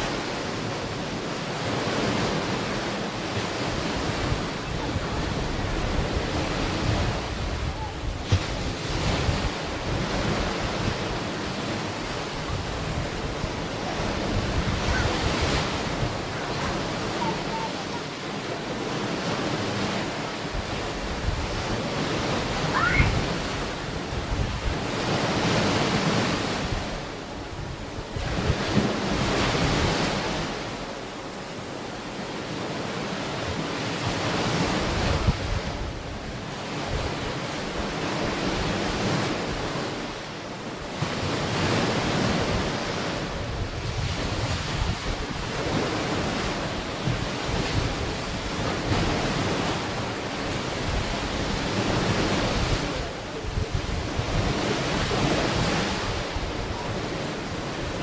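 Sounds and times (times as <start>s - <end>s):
ocean waves breaking on shore: 0.0s - 58.0s
wind buffeting microphone: 3.4s - 18.0s, 18.7s - 30.7s, 34.2s - 40.1s, 40.9s - 58.0s.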